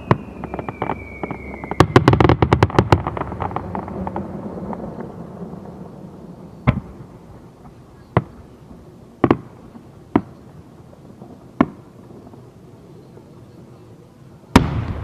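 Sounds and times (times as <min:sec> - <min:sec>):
distant fireworks bangs: 0:00.0 - 0:12.5, 0:14.5 - 0:15.0.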